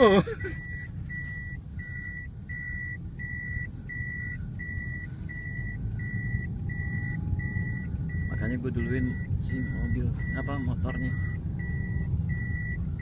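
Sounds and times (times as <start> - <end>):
car reversing beeper: 0.0 - 13.0
engine and road rumble: 0.0 - 13.0.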